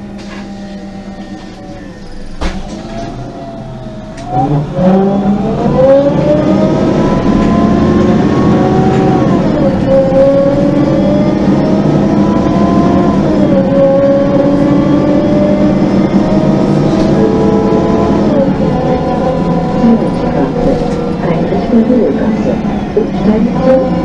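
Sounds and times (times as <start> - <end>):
bus engine pulling away: 0.0 - 24.0.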